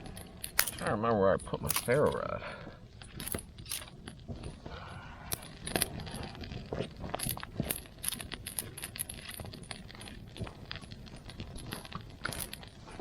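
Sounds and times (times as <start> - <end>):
camping gear clicking and clinking: 0.0 - 13.0.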